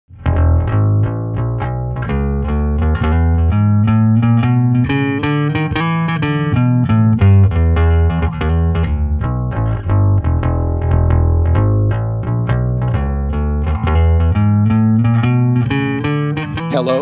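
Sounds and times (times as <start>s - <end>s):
instrumental music with bass line: 0.1s - 17.0s.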